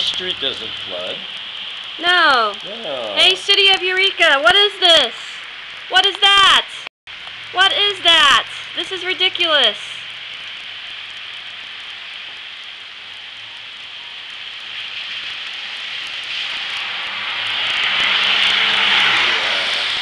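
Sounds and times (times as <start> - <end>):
car tyres hissing through floodwater: 0.0 - 6.0, 7.4 - 20.0.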